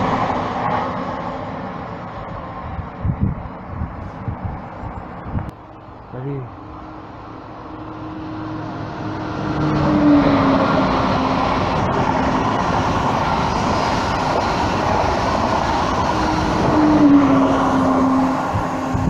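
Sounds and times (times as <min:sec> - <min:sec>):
high-speed train passing: 0:00.0 - 0:19.0.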